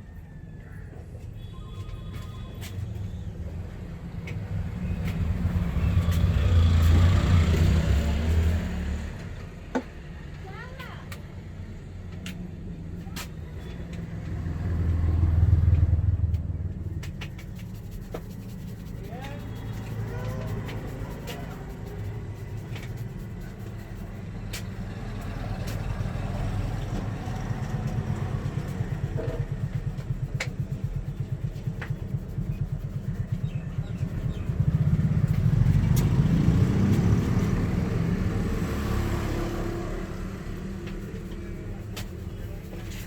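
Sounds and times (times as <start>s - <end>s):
vehicle engine rumbling: 0.0s - 43.0s.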